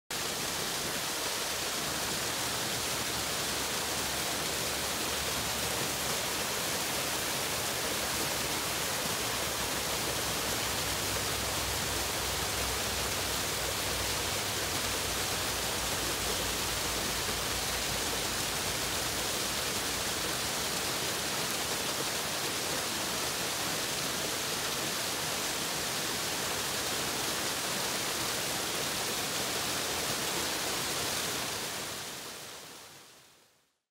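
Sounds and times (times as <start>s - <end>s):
waterfall rushing hiss: 0.1s - 33.5s.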